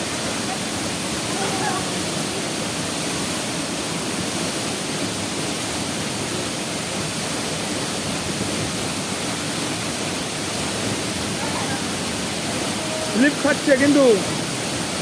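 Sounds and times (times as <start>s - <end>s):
mountain water rushing: 0.0s - 15.0s.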